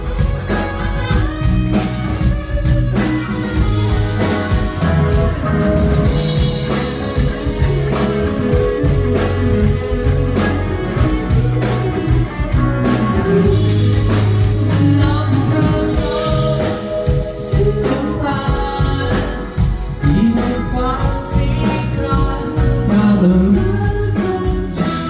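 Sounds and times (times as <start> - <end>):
drums striking: 0.0 - 25.0
rock band playing live: 0.0 - 25.0.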